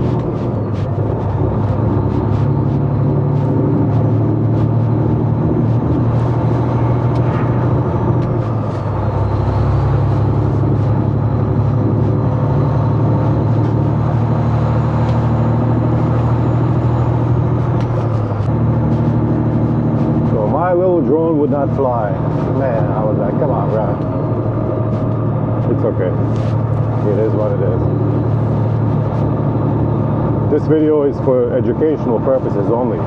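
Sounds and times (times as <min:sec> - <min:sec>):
truck engine running in cab: 0:00.0 - 0:33.0.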